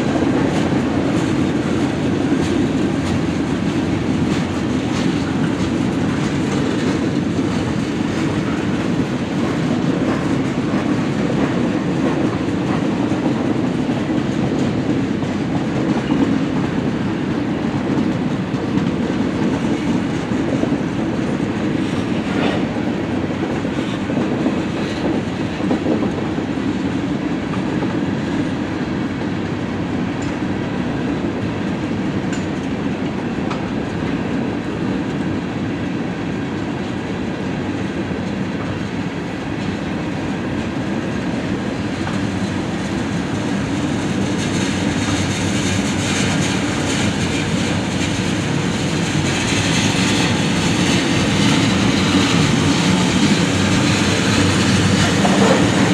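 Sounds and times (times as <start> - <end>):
clickety-clack over rail joints: 0.0 - 55.9
train wheels rumbling on rails: 0.0 - 55.9.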